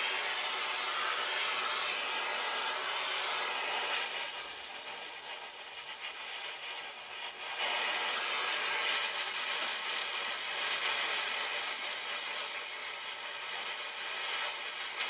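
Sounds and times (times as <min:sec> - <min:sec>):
welding torch flame hissing: 0:00.0 - 0:15.0.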